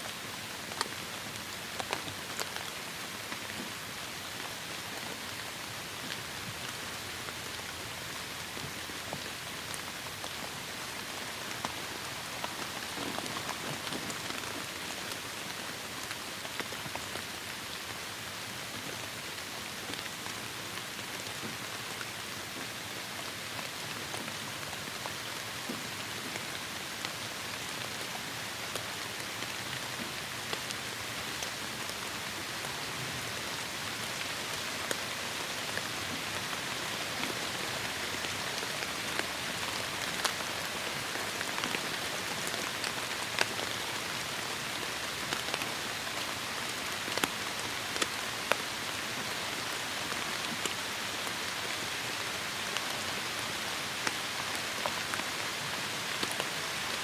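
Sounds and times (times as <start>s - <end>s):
raindrops striking close by: 0.1s - 57.0s.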